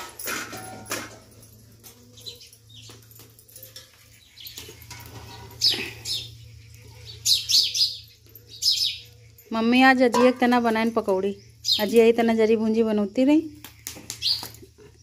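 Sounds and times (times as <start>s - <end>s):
small birds chirping: 1.9s - 15.0s.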